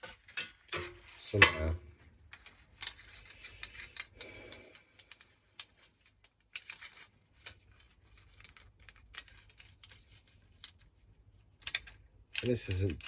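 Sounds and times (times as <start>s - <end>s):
small parts clicking and tapping: 0.0s - 13.0s.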